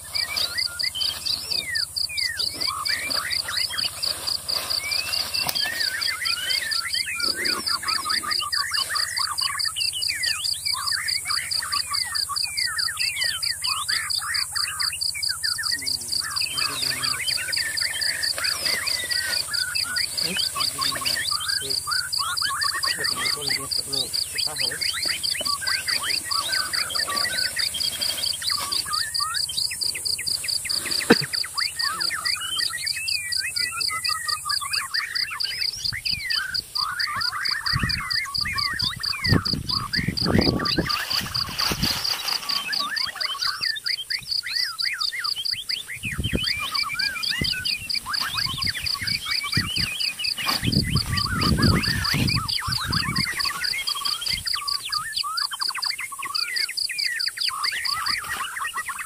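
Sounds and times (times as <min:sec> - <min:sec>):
birds chirping: 0:00.0 - 0:59.0
pulsing insect trill: 0:00.0 - 0:59.0.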